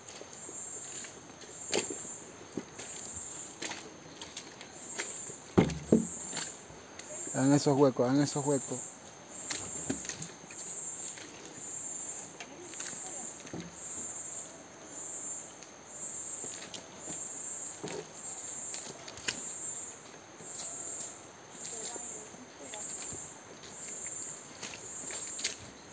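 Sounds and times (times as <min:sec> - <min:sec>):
footsteps on muddy trail: 0:00.0 - 0:07.7, 0:08.3 - 0:14.0, 0:16.4 - 0:25.9
insect chorus chirring: 0:00.0 - 0:25.9.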